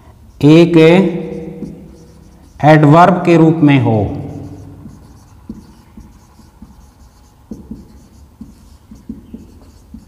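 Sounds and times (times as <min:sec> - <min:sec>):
marker writing on whiteboard: 0:00.0 - 0:10.0.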